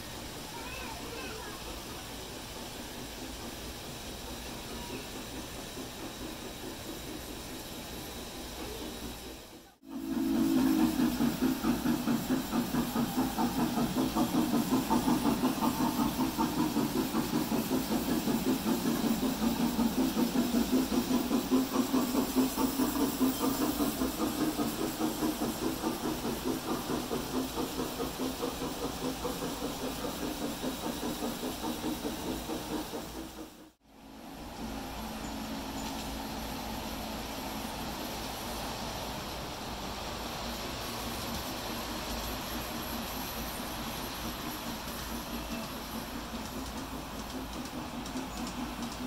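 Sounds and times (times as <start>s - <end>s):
model train running: 0.0s - 49.0s.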